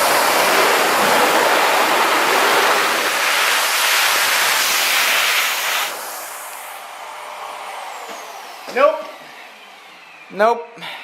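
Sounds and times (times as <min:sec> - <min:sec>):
vacuum cleaner rushing hiss: 0:00.0 - 0:11.0.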